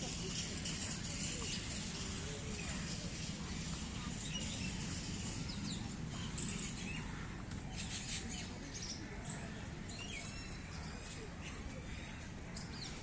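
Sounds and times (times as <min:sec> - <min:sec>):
background murmur: 0:00.0 - 0:13.0
small birds chirping: 0:00.0 - 0:13.0.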